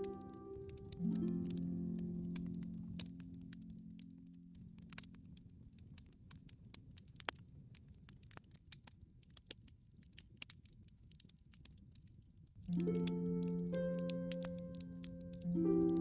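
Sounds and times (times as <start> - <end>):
campfire crackling and popping: 0.0 - 16.0
low rumble of flames: 0.0 - 16.0.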